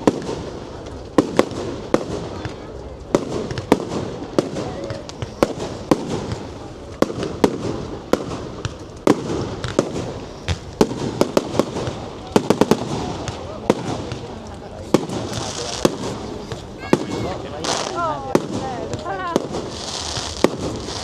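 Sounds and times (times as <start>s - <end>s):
fireworks bangs and cracks: 0.0s - 21.0s
fireworks crackle: 0.0s - 21.0s.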